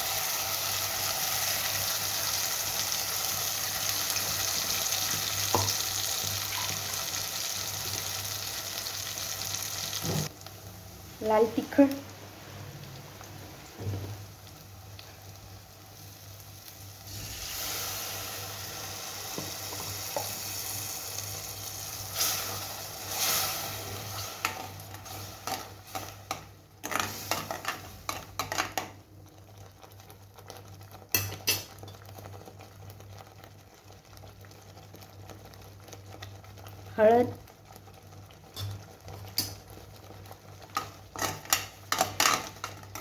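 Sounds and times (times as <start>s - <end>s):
spices frying in hot oil: 0.0s - 43.0s.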